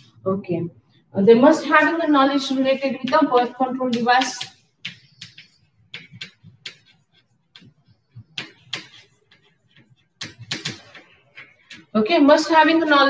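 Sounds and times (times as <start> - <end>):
chalk tapping on chalkboard: 1.8 - 13.0.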